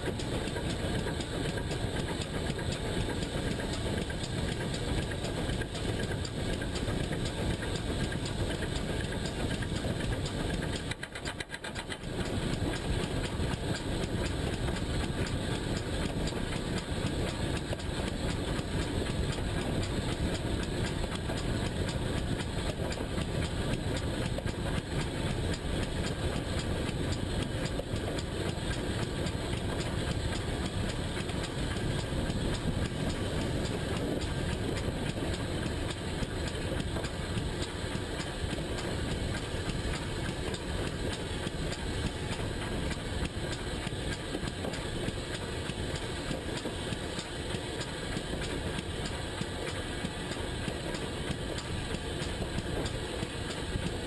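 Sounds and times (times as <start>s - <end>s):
steam locomotive running: 0.0s - 54.0s.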